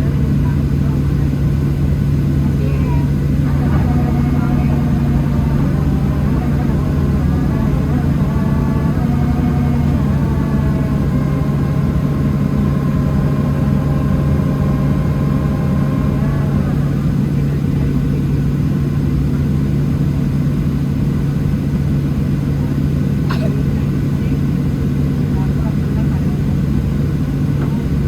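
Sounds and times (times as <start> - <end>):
high engine whine: 0.0 - 28.0
jet engines idling: 0.0 - 28.0.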